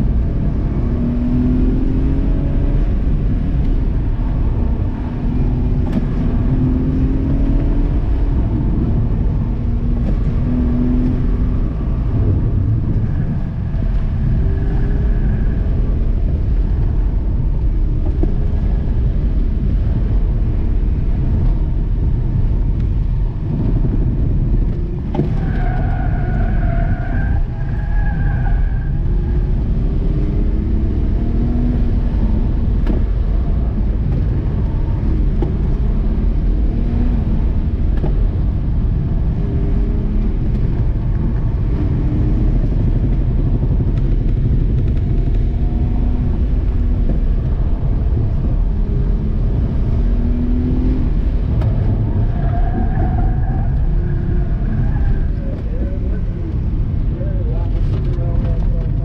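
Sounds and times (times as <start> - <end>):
heavy low rumble: 0.0 - 25.6, 28.6 - 59.0
car engine revving: 0.0 - 59.0.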